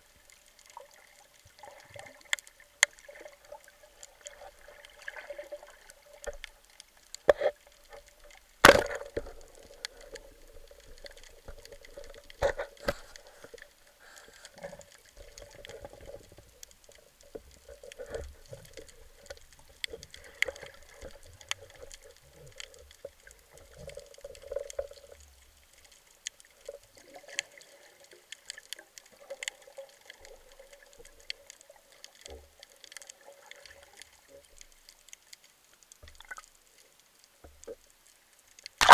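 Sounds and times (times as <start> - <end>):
underwater clicks and crackles: 0.0 - 38.9.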